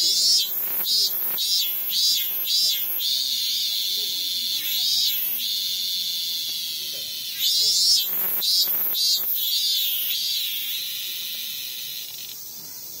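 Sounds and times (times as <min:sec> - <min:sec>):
cicada singing: 0:00.0 - 0:13.0.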